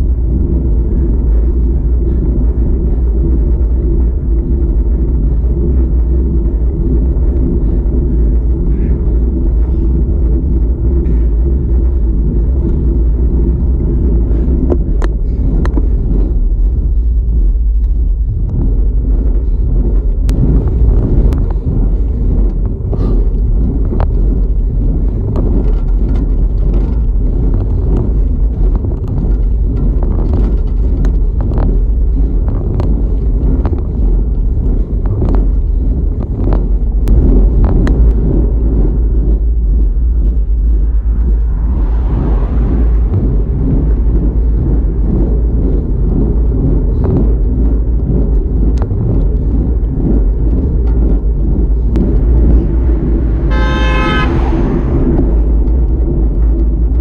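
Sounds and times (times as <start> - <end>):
tyre and road noise: 0.0 - 57.0
wind buffeting microphone: 0.0 - 57.0
sharp clicks from bumps: 4.8 - 57.0.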